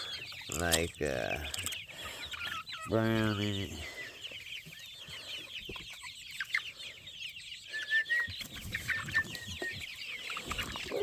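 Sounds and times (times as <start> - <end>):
chickens clucking and chirping: 0.0 - 11.0.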